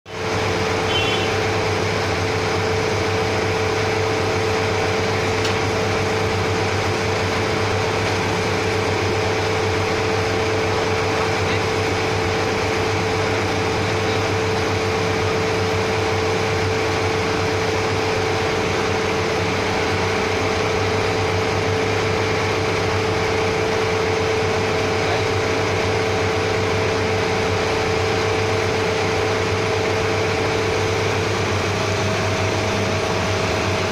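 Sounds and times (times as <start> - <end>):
machinery drone with hum: 0.1 - 33.9.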